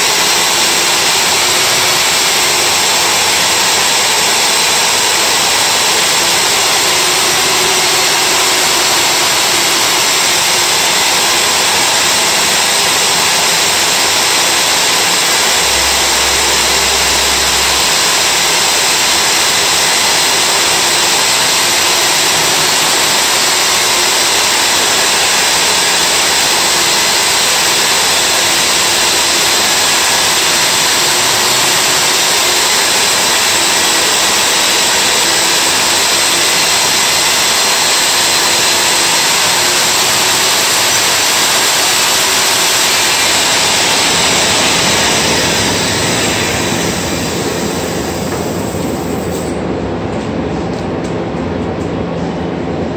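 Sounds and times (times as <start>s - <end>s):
core drill boring into wall: 0.0s - 49.1s.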